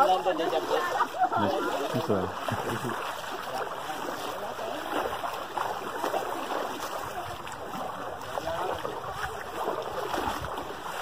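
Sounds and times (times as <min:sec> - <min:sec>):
feet splashing in water: 0:00.0 - 0:11.0
stream flowing: 0:00.0 - 0:11.0.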